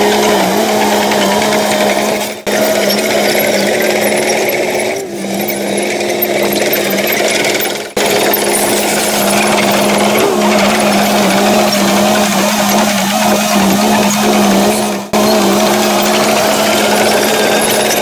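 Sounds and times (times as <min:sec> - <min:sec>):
diesel earthmoving machinery droning: 0:00.0 - 0:18.0.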